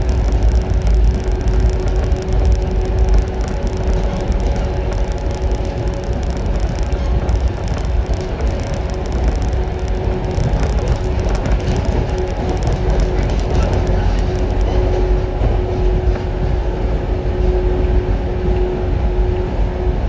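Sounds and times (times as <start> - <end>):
train drive humming: 0.0 - 20.0
wheels rumbling on rail: 0.0 - 20.0.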